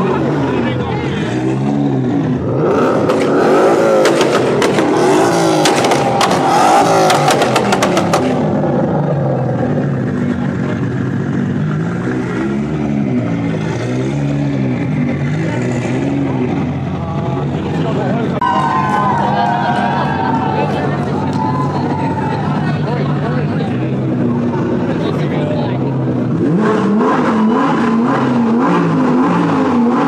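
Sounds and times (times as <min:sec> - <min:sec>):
sports car engines revving: 0:00.0 - 0:30.0.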